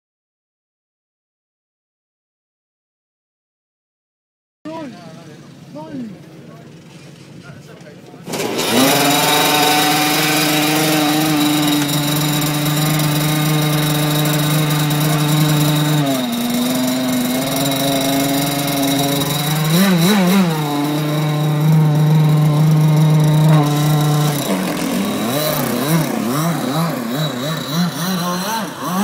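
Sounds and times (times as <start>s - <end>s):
engine throttle blips: 4.7s - 29.0s
small two-stroke engine idling: 4.7s - 29.0s.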